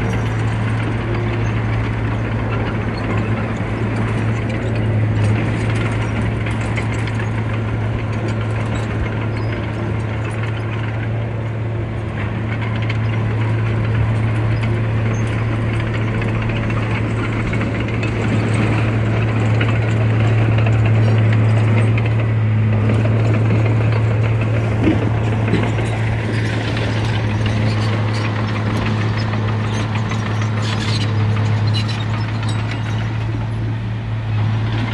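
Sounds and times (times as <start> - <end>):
heavy machinery engine drone: 0.0 - 34.9
machinery rattling and clanking: 0.0 - 34.9.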